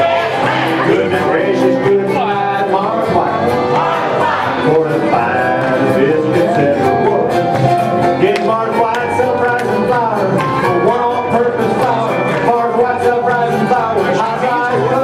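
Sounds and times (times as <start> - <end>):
bluegrass band playing: 0.0 - 15.0
man singing: 0.0 - 15.0.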